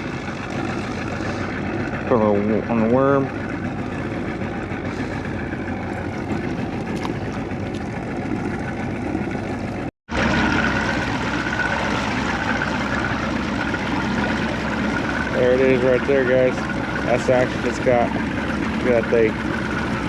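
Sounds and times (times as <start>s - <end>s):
boat motor running: 0.0s - 20.0s
water sloshing and trickling: 0.0s - 20.0s.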